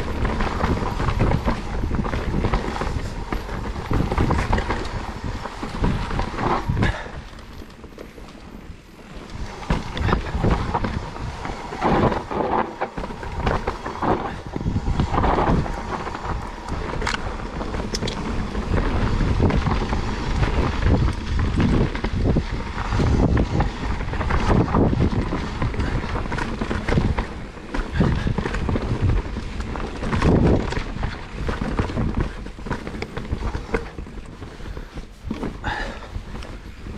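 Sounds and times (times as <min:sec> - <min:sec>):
bike knocking and rattling: 0:00.0 - 0:36.9
tyres rumbling on dirt: 0:00.0 - 0:36.9
wind buffeting microphone: 0:00.0 - 0:36.9.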